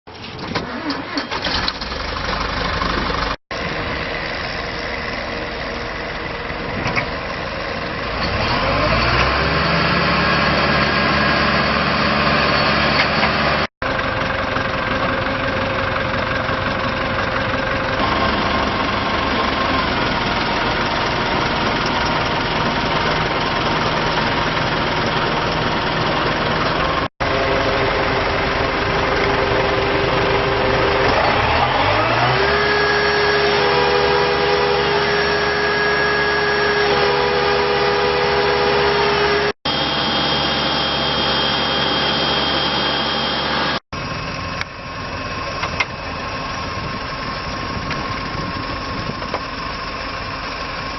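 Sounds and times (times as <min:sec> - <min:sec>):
diesel engine running: 0:00.6 - 0:50.9.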